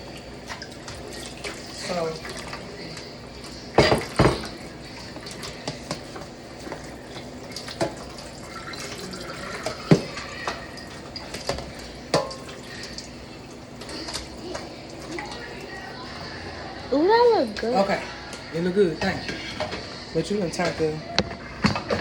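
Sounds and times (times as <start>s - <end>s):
wet stirring of salad: 0.0s - 20.8s.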